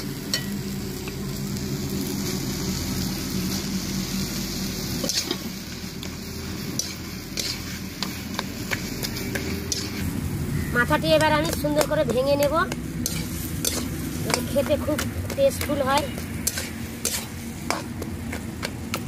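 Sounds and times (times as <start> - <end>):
mash sizzling in pan: 0.0 - 19.0.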